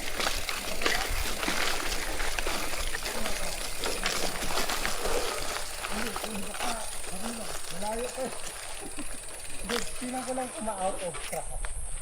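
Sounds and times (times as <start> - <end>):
bike rattling over dirt trail: 0.0 - 12.0.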